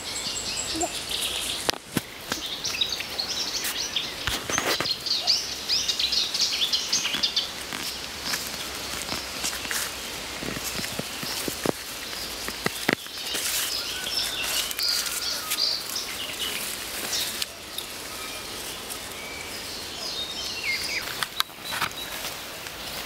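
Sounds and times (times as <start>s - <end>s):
birds chirping: 0.0s - 23.0s
steady outdoor hiss: 0.0s - 23.0s.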